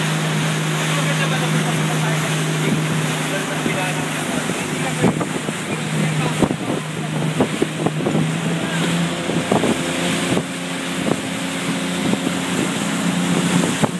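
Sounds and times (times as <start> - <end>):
outboard motor running: 0.0 - 13.9
wake rushing: 0.0 - 13.9
wind buffeting the microphone: 0.3 - 13.9.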